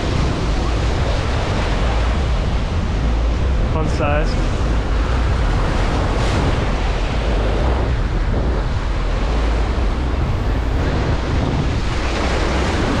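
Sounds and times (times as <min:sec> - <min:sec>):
surf washing: 0:00.0 - 0:13.0
wind buffeting microphone: 0:00.0 - 0:13.0.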